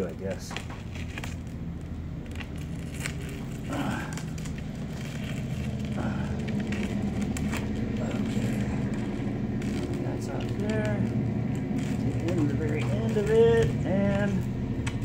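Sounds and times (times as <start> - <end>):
small clicks and crackles: 0.0 - 15.0
steady low hum: 0.0 - 15.0
razor blade slicing plastic: 0.4 - 15.0.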